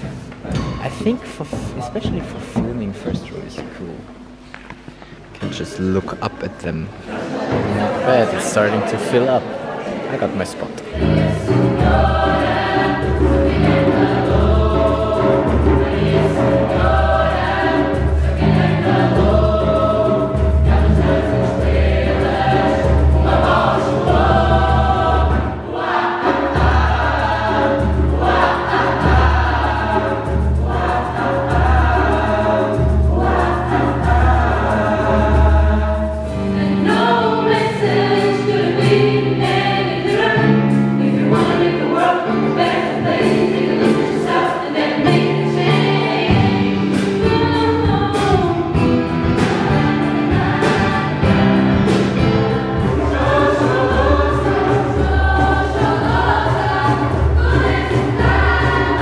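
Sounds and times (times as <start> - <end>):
band accompaniment: 0.0 - 6.6, 10.8 - 59.0
mixed choir singing in harmony: 5.5 - 59.0
sharp percussion strokes: 10.9 - 59.0.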